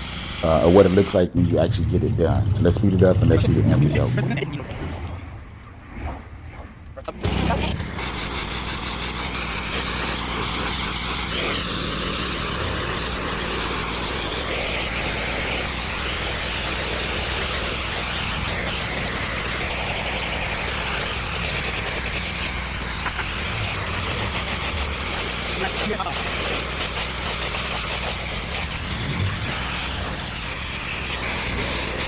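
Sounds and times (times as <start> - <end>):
water spray hissing on concrete: 0.0 - 1.3, 7.3 - 32.0
pressure washer engine running: 0.0 - 2.2, 7.2 - 32.0.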